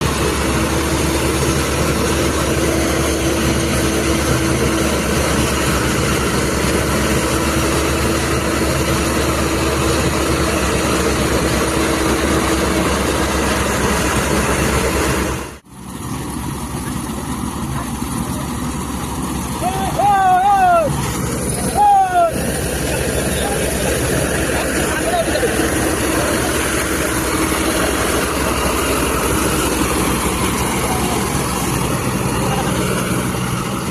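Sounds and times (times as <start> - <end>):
combine harvester engine droning: 0.0 - 33.9.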